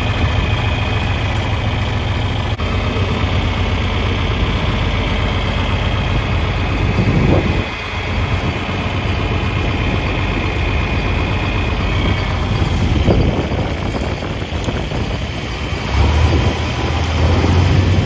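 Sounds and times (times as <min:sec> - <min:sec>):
heavy low rumble: 0:00.0 - 0:18.0
tractor engine running: 0:00.0 - 0:18.0.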